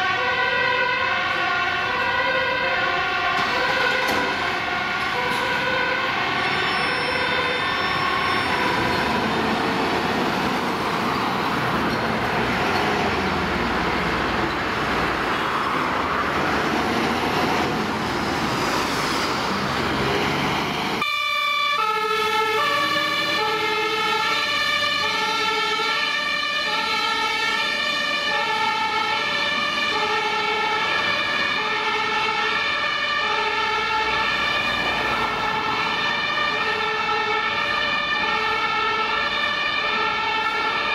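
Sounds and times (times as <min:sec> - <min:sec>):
truck diesel engine: 0:00.0 - 0:21.0, 0:21.8 - 0:40.9
fire engine two-tone siren: 0:00.0 - 0:40.9.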